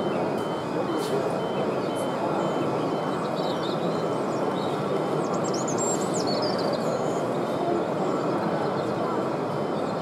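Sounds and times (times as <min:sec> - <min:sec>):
hubbub of crowded hall: 0:00.0 - 0:10.0.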